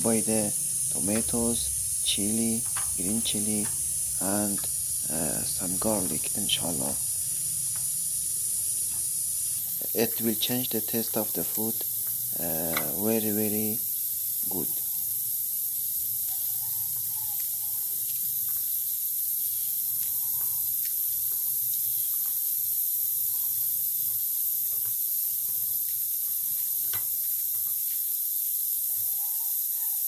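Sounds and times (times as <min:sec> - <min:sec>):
pressure cooker hissing: 0:00.0 - 0:30.0.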